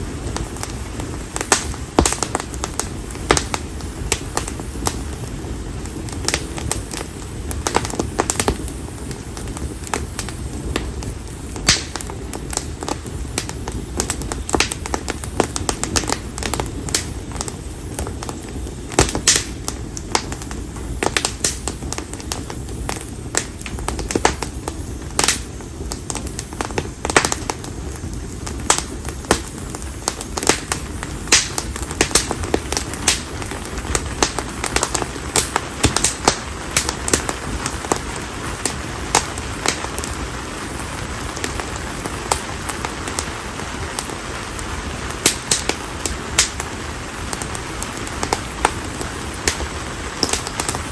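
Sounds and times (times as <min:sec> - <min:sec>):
campfire crackling and popping: 0:00.0 - 0:50.9
low rumble of flames: 0:00.0 - 0:50.9.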